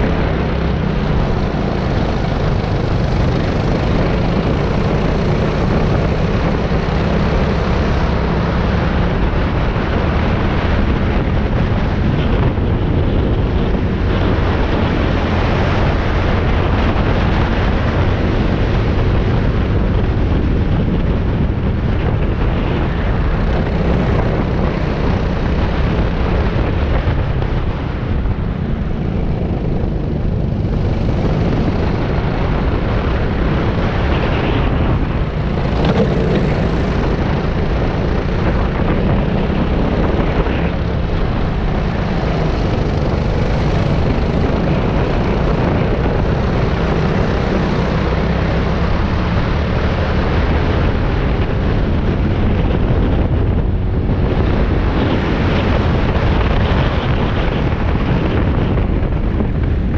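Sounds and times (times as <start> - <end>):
go-kart engine running: 0.0 - 59.9
wind noise on microphone: 0.0 - 59.9.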